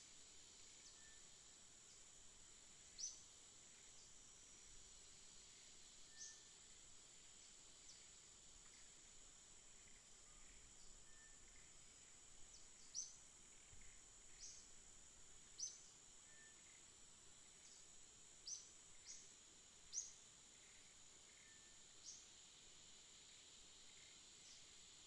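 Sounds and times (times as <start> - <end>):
steady high-pitched whine: 0.0 - 25.0.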